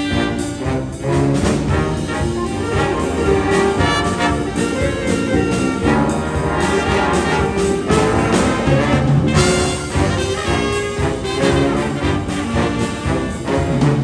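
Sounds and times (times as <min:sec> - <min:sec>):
brass horns holding notes: 0:00.0 - 0:14.0
steady drum beat: 0:00.0 - 0:14.0.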